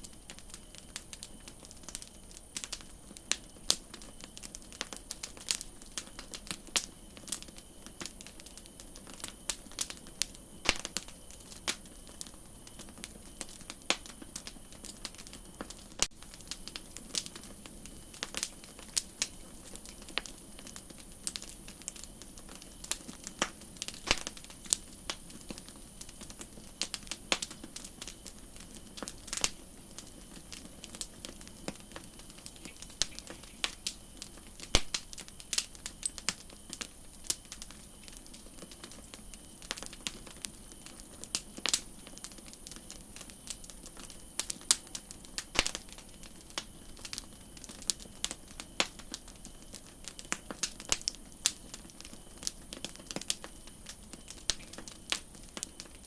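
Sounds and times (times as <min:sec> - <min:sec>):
campfire crackling and popping: 0:00.0 - 0:56.0
soft steady hiss: 0:00.0 - 0:56.0.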